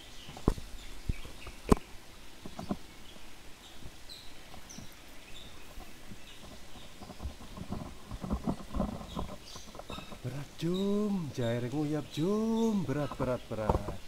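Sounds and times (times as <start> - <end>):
small knocks and rustles: 0.0 - 14.0
bird chirps: 2.6 - 14.0.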